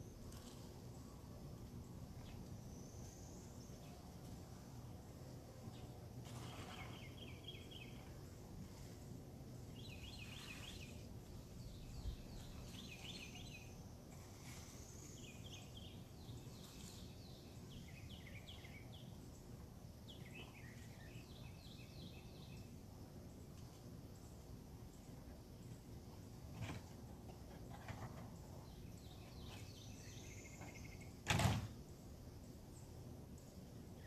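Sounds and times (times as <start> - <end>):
faint birdsong: 0.0 - 34.0.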